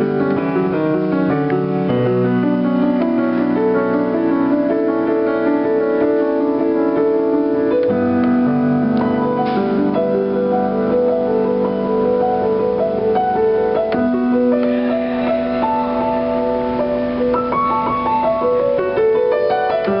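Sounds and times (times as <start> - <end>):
piano chords and melody: 0.0 - 20.0.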